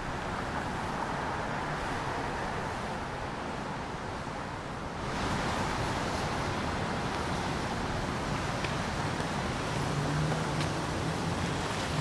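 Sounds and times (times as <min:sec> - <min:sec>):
hiss of passing vehicles: 0:00.0 - 0:12.0.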